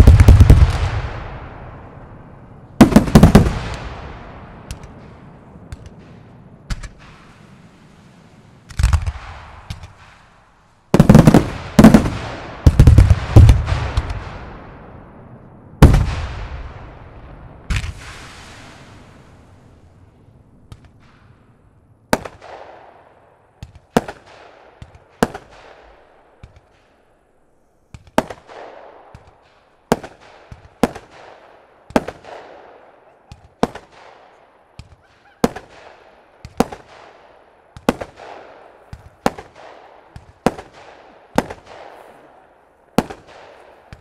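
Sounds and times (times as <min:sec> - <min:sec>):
distant firework bangs: 0:00.0 - 0:07.9, 0:08.6 - 0:44.0.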